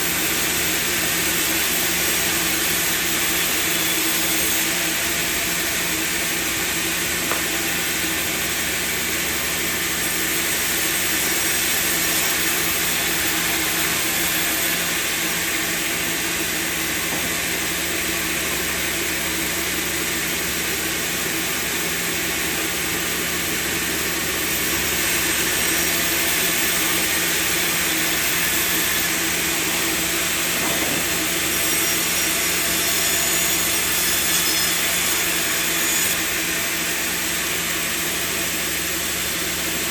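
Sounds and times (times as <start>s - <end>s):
sawmill machinery hiss: 0.0s - 39.9s.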